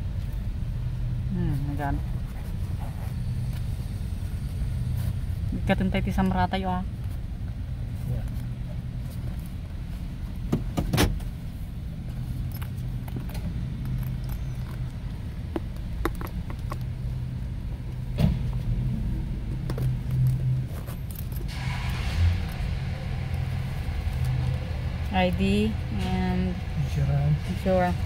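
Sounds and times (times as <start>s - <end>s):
low vehicle hum: 0.0s - 28.0s.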